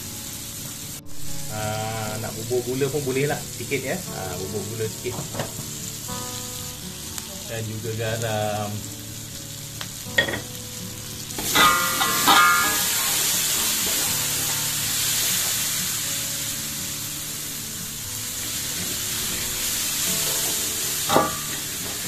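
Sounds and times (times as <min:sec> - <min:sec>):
sauce sizzling in a wok: 0:00.0 - 0:22.0.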